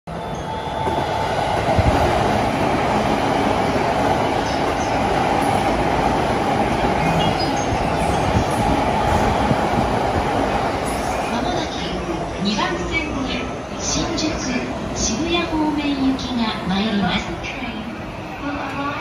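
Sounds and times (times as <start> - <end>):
train passing at speed: 0.1 - 19.0.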